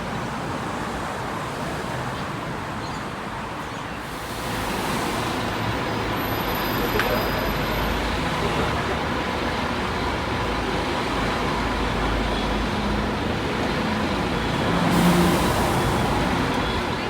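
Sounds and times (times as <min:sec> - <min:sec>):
traffic engine rumble and tyre noise: 0:00.0 - 0:17.0.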